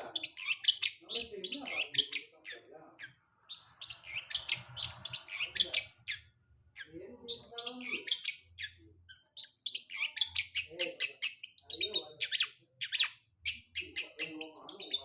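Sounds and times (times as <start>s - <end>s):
shrike singing: 0.0s - 15.0s.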